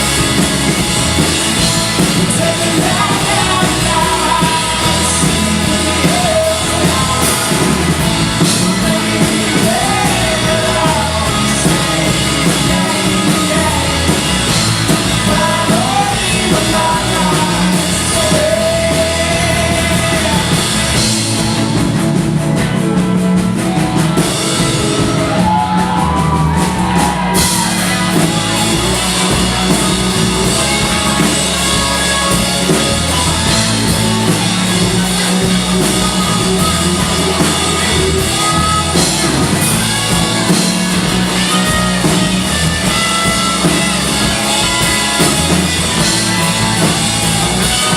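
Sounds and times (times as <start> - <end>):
person singing: 0.0 - 21.8, 23.6 - 47.9
drum kit: 0.0 - 47.9
rock band playing live: 0.0 - 47.9.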